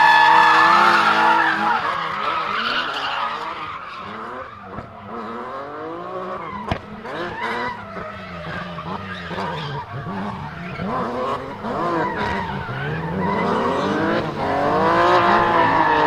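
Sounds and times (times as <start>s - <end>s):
tyres squealing: 0.0s - 5.2s, 6.3s - 14.5s
car engine revving: 0.0s - 16.0s.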